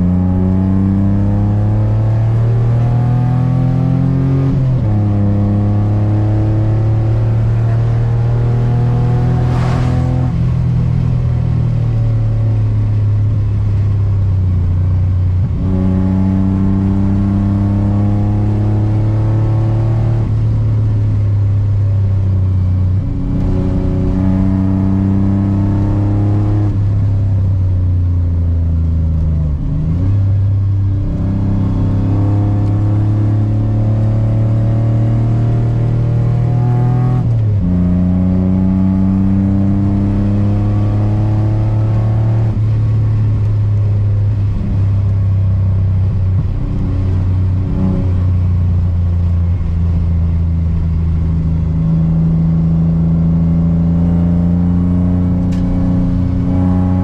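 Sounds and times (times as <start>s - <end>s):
race car engine revving: 0.0s - 12.0s, 15.4s - 20.8s, 22.9s - 27.1s, 29.4s - 45.2s, 46.0s - 57.0s.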